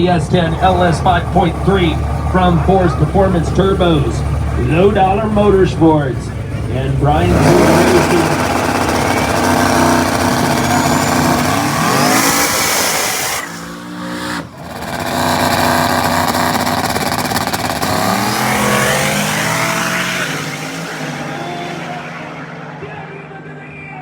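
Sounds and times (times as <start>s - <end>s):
drag race car engines revving: 0.0s - 24.0s.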